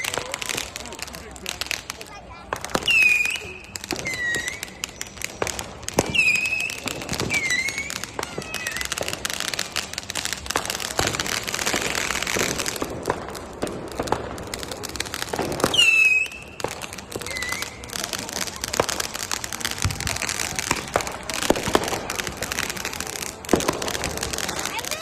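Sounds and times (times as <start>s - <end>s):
crackling hiss of fireworks: 0.0s - 25.0s
fireworks cracking and popping: 0.0s - 25.0s
firework whistles: 2.5s - 13.2s, 13.9s - 25.0s.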